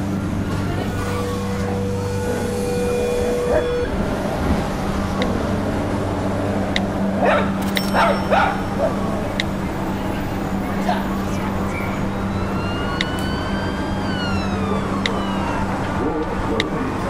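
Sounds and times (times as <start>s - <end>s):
steady hum: 0.0s - 17.0s
steady tone: 0.0s - 17.0s.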